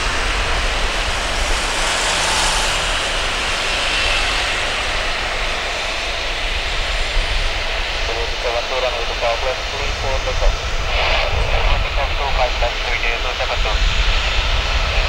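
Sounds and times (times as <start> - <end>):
jet engine whine and hiss: 0.0 - 15.0.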